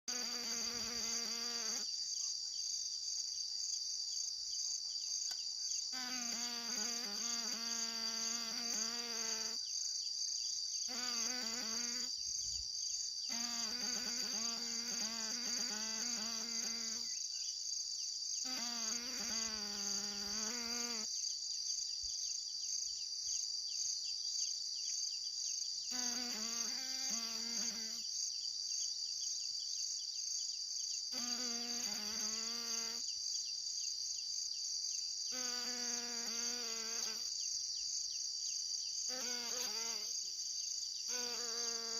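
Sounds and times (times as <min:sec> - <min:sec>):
crickets trilling: 0:00.1 - 0:41.9.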